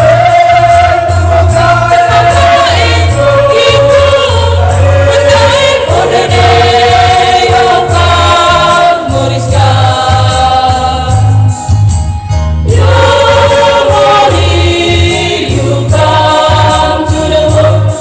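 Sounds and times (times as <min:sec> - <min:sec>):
choir singing long held notes: 0:00.0 - 0:11.6, 0:12.6 - 0:18.0
pulsing bass accompaniment: 0:00.0 - 0:18.0.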